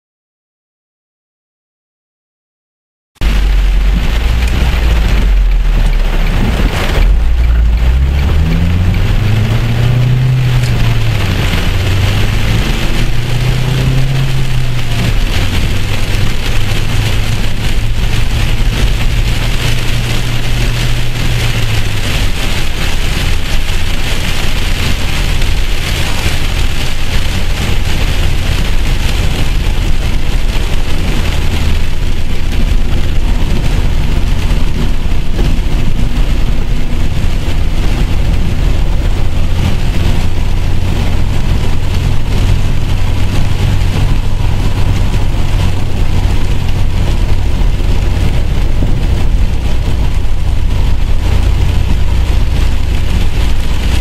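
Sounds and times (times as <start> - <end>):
heavy rain on car: 3.2 - 54.0
low engine drone: 3.2 - 54.0.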